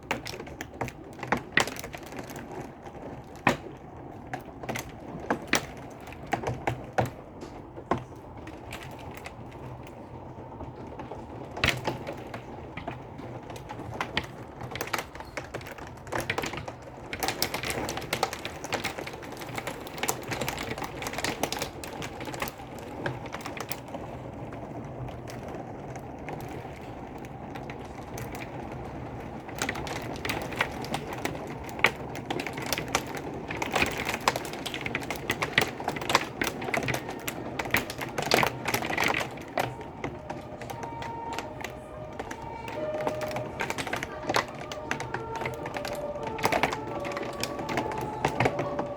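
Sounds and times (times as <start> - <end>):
rain patter on hard surface: 0.0 - 48.9.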